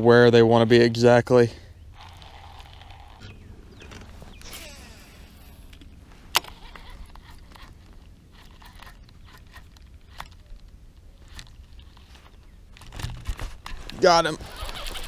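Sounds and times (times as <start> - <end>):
low handling noise: 2.0 - 14.4.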